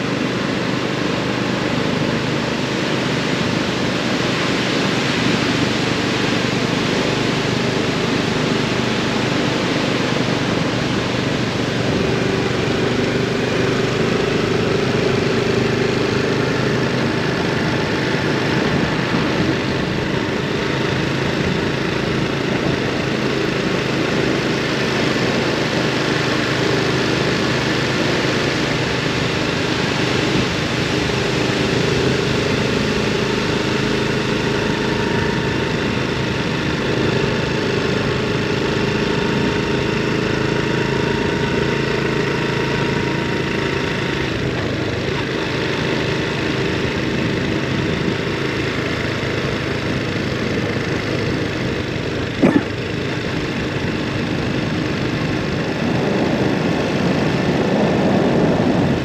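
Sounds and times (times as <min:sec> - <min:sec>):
small motorcycle engine running: 0:00.0 - 0:59.0
wind and road noise: 0:00.0 - 0:59.0.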